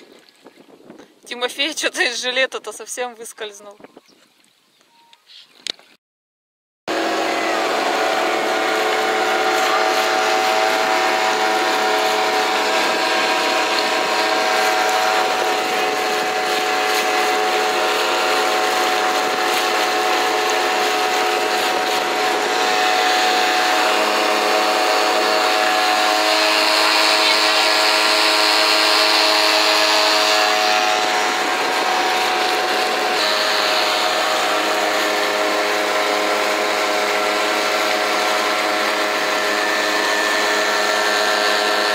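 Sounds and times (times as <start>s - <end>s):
wind and water rushing: 0.0s - 4.6s, 6.9s - 41.9s
small outboard motor running: 6.9s - 41.9s.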